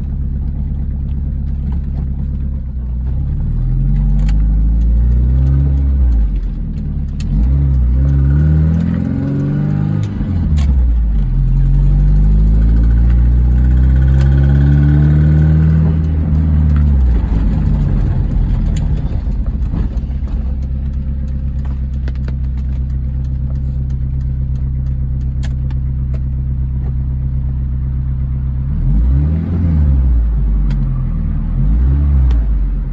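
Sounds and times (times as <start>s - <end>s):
car engine revving and idling: 0.0s - 32.9s.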